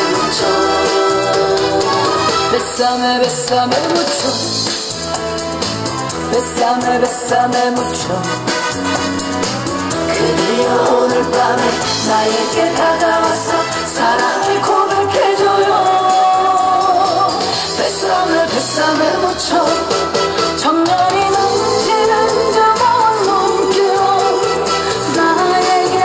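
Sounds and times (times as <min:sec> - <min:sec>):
woman singing into microphone: 0:00.0 - 0:04.9, 0:06.2 - 0:08.4, 0:10.1 - 0:26.0
music with steady beat: 0:00.0 - 0:26.0.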